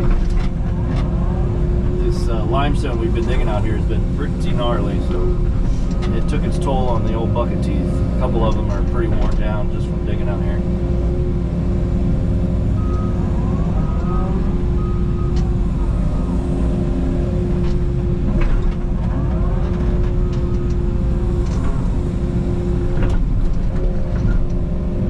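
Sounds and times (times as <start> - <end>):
diesel engine under load: 0.0 - 25.0
hydraulic whine: 0.0 - 25.0.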